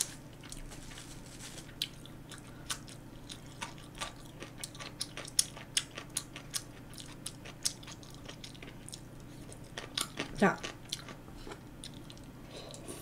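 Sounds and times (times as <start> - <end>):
wet chewing mouth sounds: 1.8 - 13.0.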